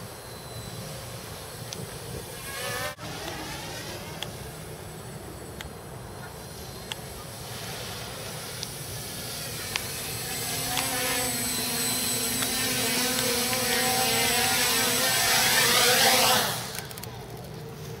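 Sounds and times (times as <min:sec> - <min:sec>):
drone propellers droning: 0:00.0 - 0:18.0.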